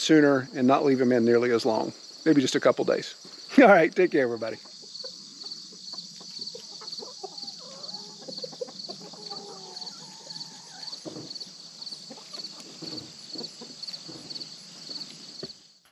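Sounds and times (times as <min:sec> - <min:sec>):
insects chirping: 0:00.0 - 0:15.9
chickens clucking: 0:00.1 - 0:15.7.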